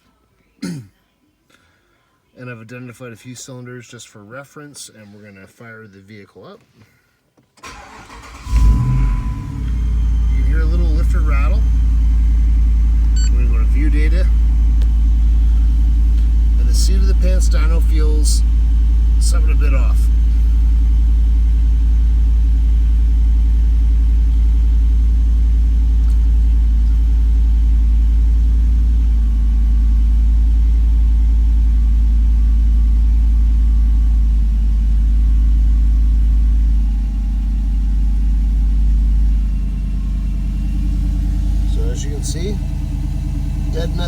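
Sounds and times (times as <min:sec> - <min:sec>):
engine idling with lifter rattle: 0:07.6 - 0:44.0.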